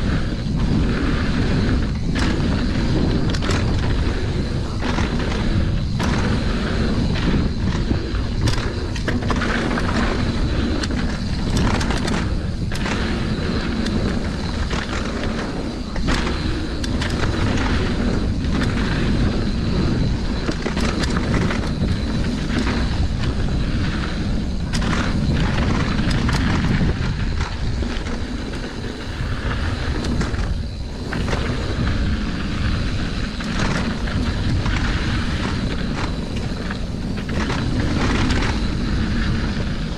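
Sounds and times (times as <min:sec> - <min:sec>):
bike clicks and knocks: 0:00.0 - 0:39.9
tyres rolling on dirt: 0:00.0 - 0:39.9
wind rushing over microphone: 0:00.0 - 0:39.9.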